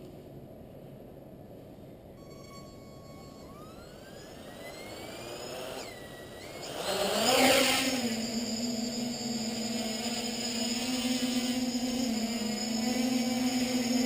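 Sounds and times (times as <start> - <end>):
quadcopter motors whining: 2.2 - 14.0.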